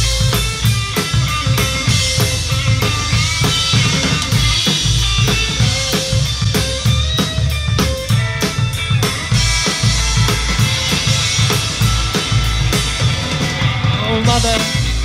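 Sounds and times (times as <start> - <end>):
bass guitar notes: 0.0 - 15.0
drum kit beat: 0.0 - 15.0
electric guitars: 0.0 - 15.0.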